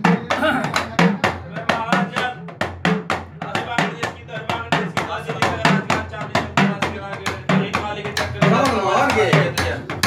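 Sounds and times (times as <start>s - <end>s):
drums beaten in fast rhythm: 0.0s - 10.0s
men singing devotional song: 0.0s - 10.0s.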